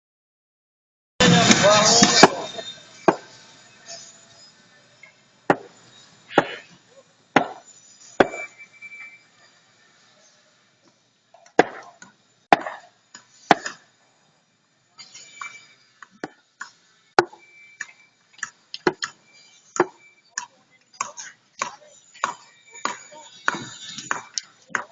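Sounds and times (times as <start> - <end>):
hammer blows: 1.2 - 9.5, 11.6 - 13.9, 15.0 - 24.9.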